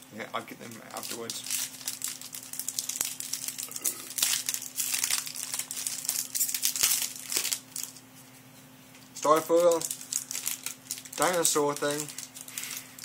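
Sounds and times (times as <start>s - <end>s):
foil wrappers crinkling: 0.4s - 8.0s, 9.2s - 13.0s.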